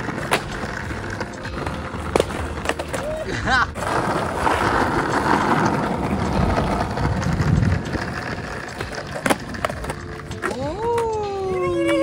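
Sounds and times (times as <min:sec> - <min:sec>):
skateboard clacking on ground: 0:00.0 - 0:12.0
skateboard wheels rolling on stone: 0:00.0 - 0:12.0.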